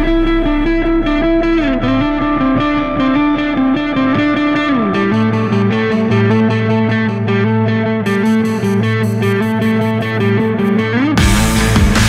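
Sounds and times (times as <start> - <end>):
distorted electric guitar riff: 0.0 - 12.0.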